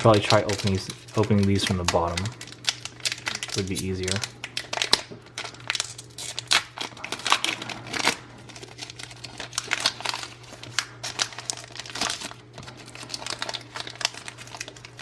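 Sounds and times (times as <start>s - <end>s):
foil wrapper crinkling: 0.0s - 15.0s.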